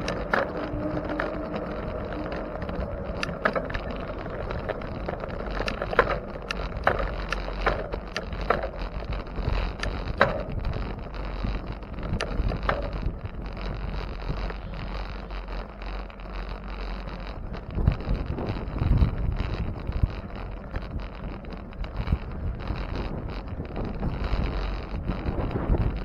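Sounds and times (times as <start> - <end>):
bicycle clicks and rattles: 0.0 - 26.0
road rumble: 0.0 - 26.0
wind on microphone: 0.0 - 26.0.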